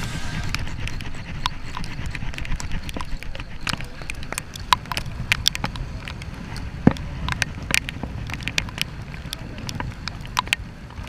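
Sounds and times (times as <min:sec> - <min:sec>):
boat moving on choppy sea: 0:00.0 - 0:11.0
low rumble of wind: 0:00.0 - 0:11.0
sharp ticks and splashes: 0:00.4 - 0:11.0.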